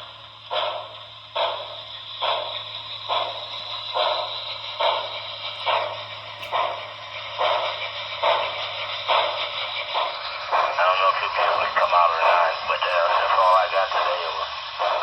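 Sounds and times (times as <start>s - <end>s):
steady low hum: 0.0s - 15.0s
steam exhaust chuffs from speaker: 0.0s - 15.0s.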